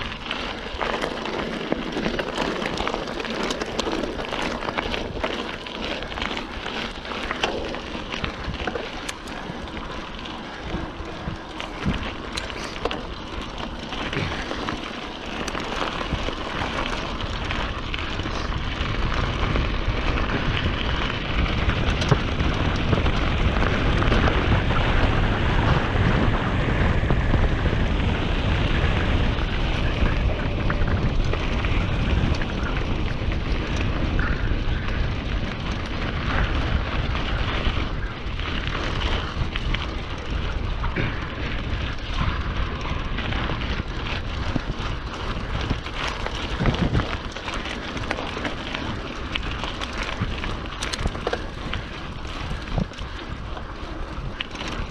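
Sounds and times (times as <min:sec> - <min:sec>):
small rattles and clicks: 0:00.0 - 0:26.2, 0:27.8 - 0:54.9
bike tyre noise: 0:00.0 - 0:54.9
wind rumble on microphone: 0:00.0 - 0:54.9.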